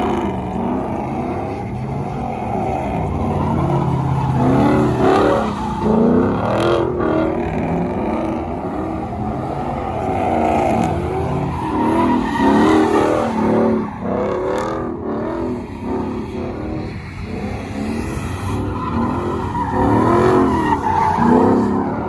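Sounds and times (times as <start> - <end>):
tires squealing: 0.0 - 22.0
truck engines revving: 0.0 - 22.0.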